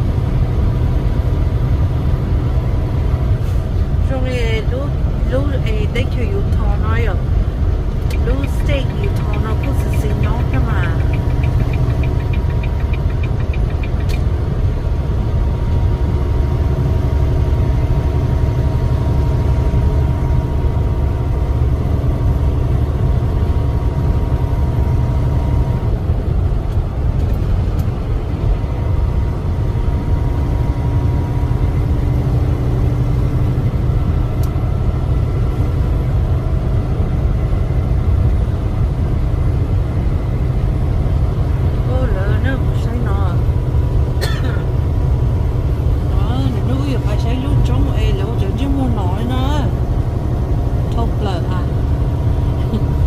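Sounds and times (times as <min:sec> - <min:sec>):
diesel truck engine droning: 0:00.0 - 0:53.0.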